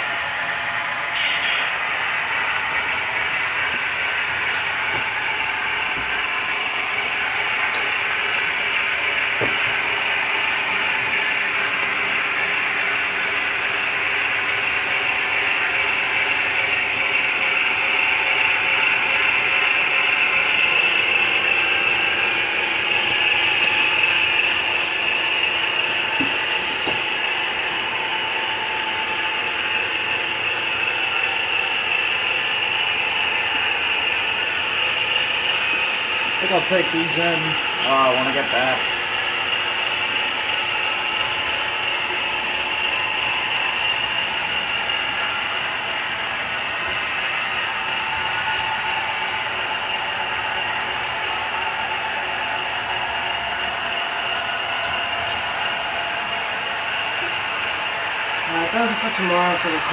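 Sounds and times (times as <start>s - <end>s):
model train motor whirring: 0.0s - 59.9s.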